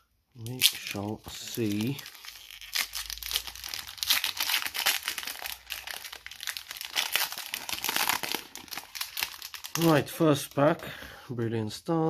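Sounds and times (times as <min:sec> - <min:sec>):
foil wrapper crinkling and tearing: 0:00.4 - 0:10.6.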